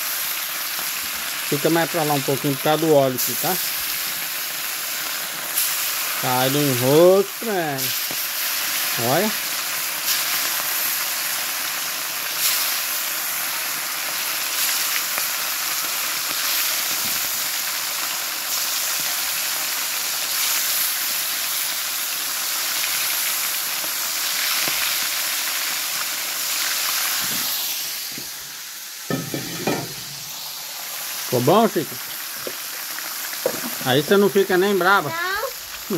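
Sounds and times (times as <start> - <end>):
fish frying in hot oil: 0.0 - 35.9.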